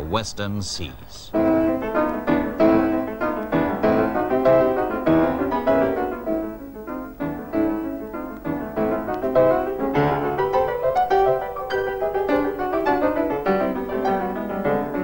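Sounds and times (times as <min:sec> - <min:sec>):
piano music: 0:01.3 - 0:15.0.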